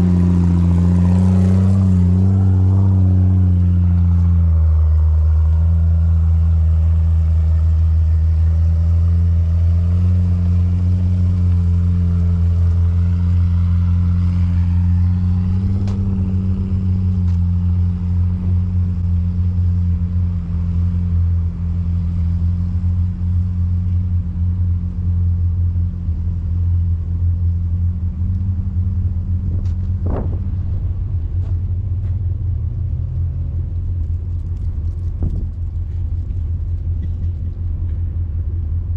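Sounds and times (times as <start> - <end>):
engine running at low revs: 0.0 - 38.9.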